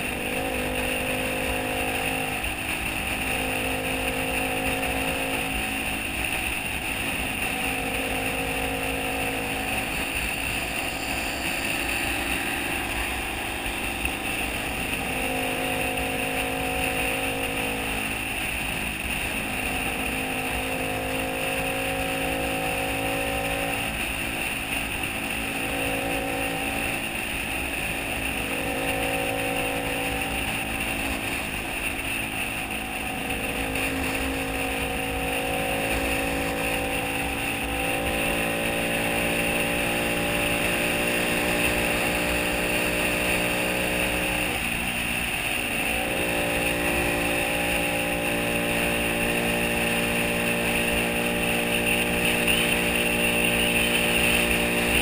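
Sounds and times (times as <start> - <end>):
motorcycle engine cruising: 0.0 - 55.0
road and wind noise: 0.0 - 55.0.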